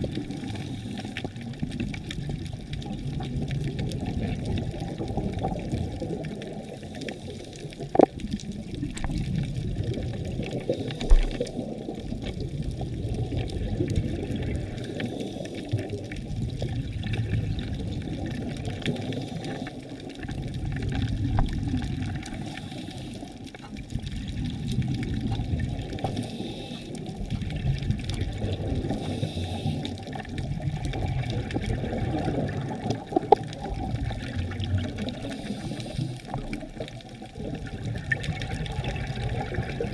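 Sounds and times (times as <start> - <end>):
underwater bubbling of exhaled air: 0.0 - 39.9.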